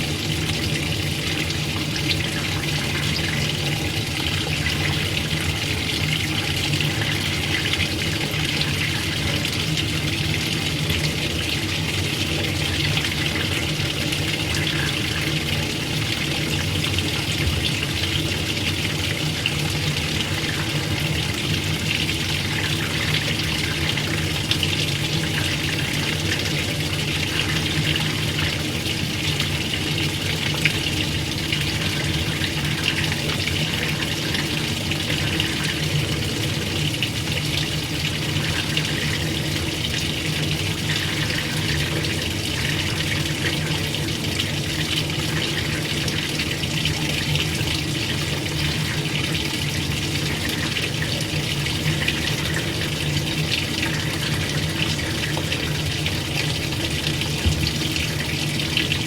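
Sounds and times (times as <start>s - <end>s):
water running into washing machine: 0.0s - 59.0s.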